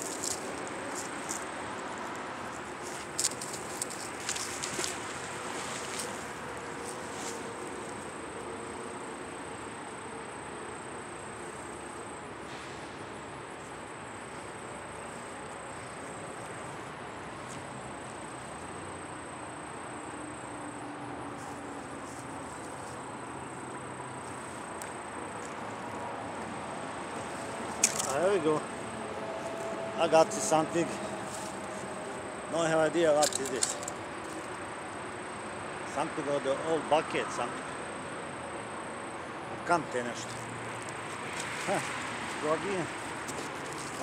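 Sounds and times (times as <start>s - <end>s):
crickets trilling: 0.0s - 44.0s.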